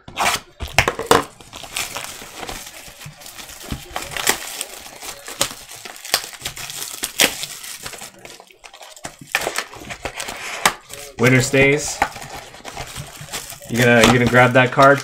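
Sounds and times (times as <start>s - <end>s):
plastic shrink wrap crinkling: 0.1s - 15.0s.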